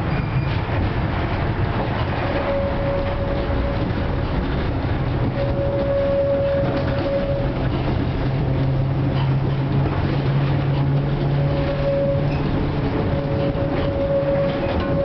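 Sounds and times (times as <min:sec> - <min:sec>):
tram wheels rumbling on rails: 0:00.0 - 0:15.0
high steady whine: 0:02.2 - 0:09.1, 0:09.8 - 0:15.0
low hum: 0:02.2 - 0:15.0.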